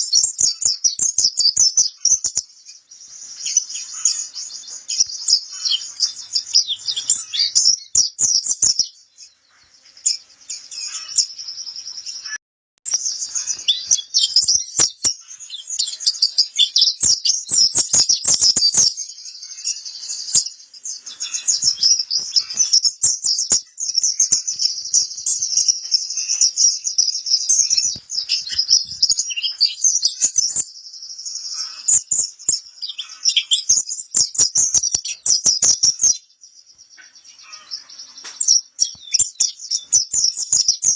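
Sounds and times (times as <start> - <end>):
bird twittering song: 0.0 - 40.9.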